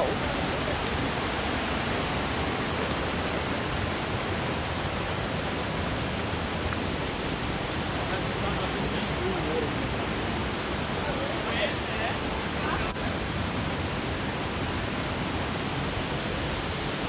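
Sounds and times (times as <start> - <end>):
creek water rushing over cascade: 0.0 - 17.0.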